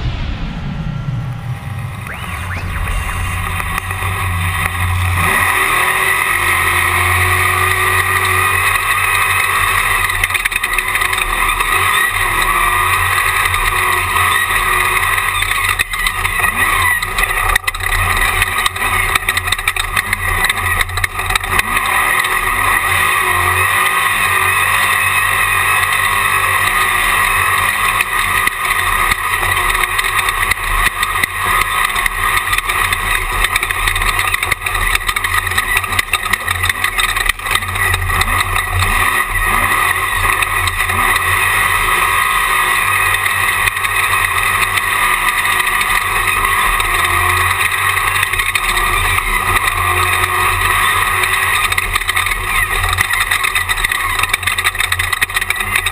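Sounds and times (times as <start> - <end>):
race car engine revving: 0.0 - 55.9
wind and terrain noise: 0.0 - 55.9.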